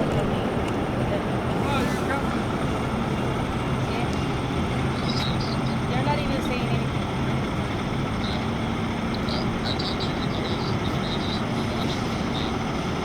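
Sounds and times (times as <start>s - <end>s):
faint engine hum: 0.0s - 13.0s
low rumble of vehicle: 0.0s - 13.0s.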